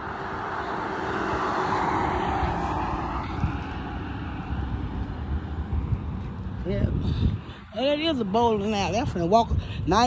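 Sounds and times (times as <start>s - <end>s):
low traffic rumble: 0.0s - 10.0s
passing car: 0.0s - 10.0s.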